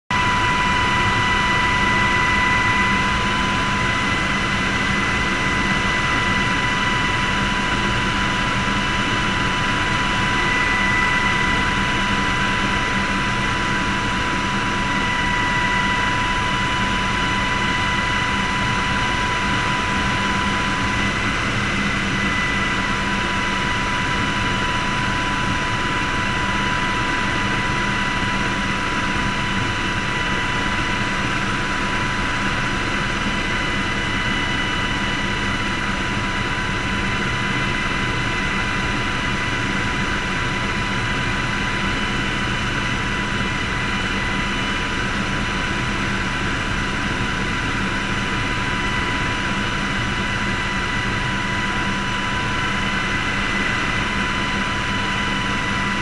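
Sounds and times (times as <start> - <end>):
helicopter engine whine: 0.1 - 56.0.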